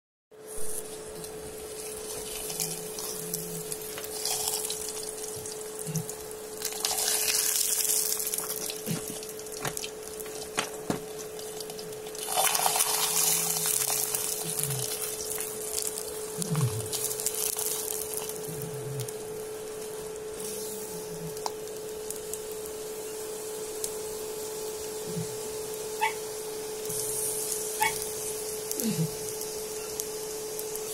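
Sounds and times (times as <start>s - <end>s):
steady hum: 0.4s - 30.9s
bread sizzling in oil: 0.6s - 25.0s, 25.6s - 30.9s.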